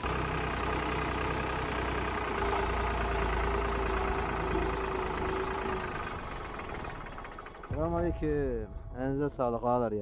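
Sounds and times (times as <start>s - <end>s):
tractor diesel engine running: 0.0s - 8.2s.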